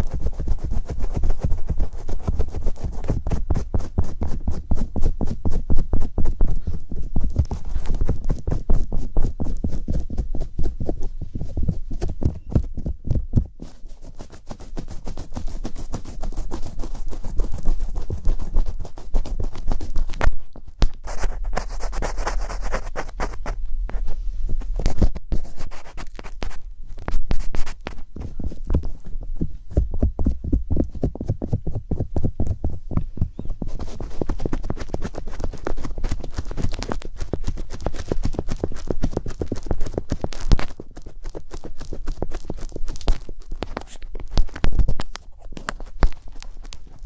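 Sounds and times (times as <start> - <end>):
tapping and scratching on object: 0.0 - 47.0.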